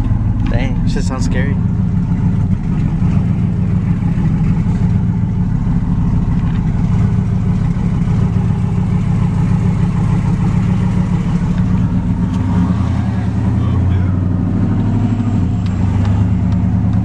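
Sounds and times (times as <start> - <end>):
truck engine with deep exhaust: 0.0 - 17.0.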